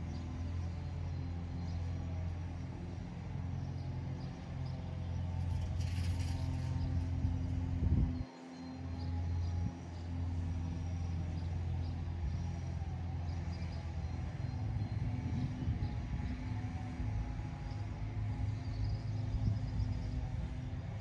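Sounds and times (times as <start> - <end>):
distant chainsaw engine running: 0.0 - 21.0.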